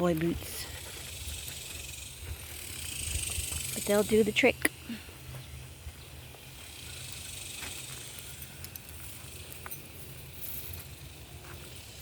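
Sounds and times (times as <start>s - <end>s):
insects hissing: 0.0s - 12.0s.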